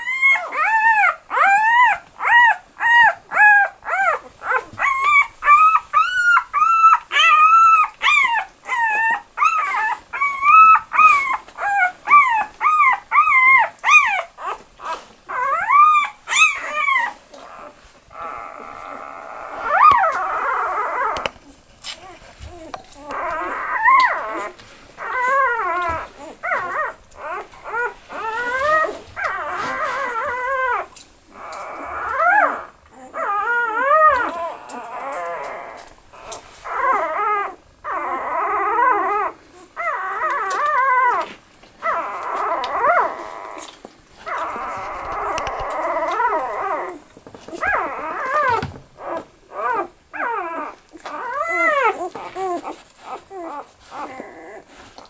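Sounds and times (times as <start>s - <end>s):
puppies crying and squealing: 0.0s - 55.0s.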